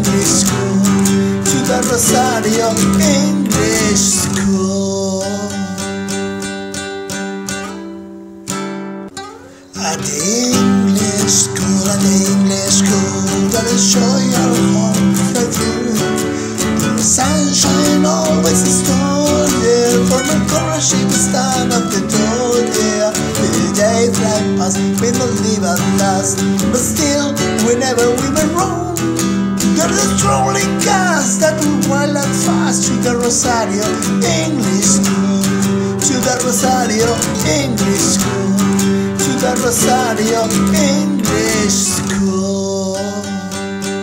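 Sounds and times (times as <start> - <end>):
bending melody line: 0.0 - 43.2
strummed acoustic guitar: 0.0 - 44.0.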